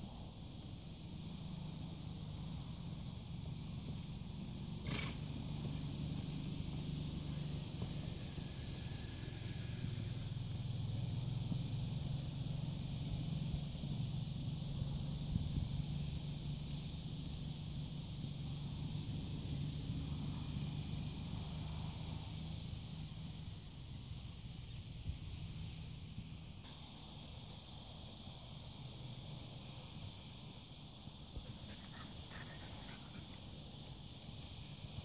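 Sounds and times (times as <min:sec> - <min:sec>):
even hiss: 0:00.0 - 0:35.0.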